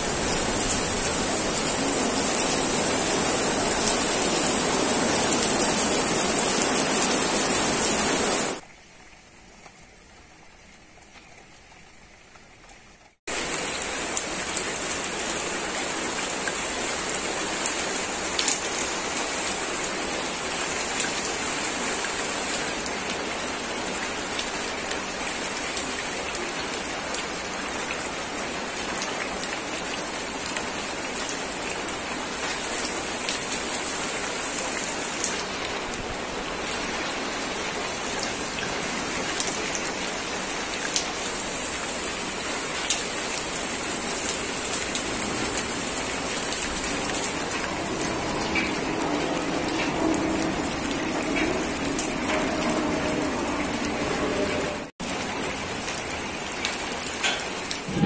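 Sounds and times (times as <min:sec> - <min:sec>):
heavy rain on puddles: 0:00.0 - 0:58.0.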